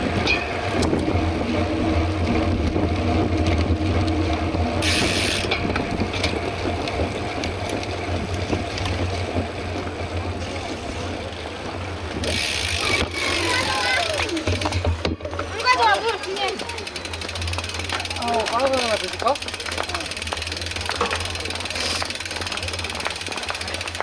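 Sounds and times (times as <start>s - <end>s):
bike tyres rumbling: 0.0s - 24.0s
freewheel hub ticking: 0.2s - 24.0s.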